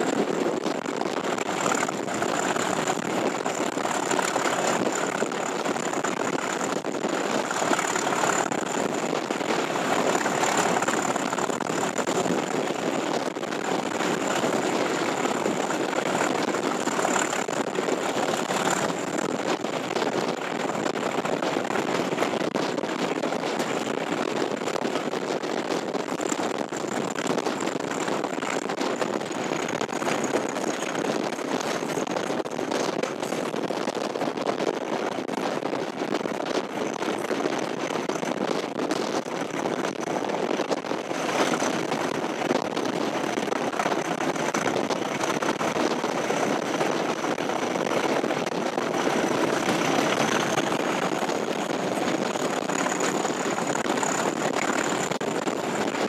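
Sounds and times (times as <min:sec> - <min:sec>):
diesel locomotive engine running: 0:00.0 - 0:33.6, 0:41.1 - 0:56.0.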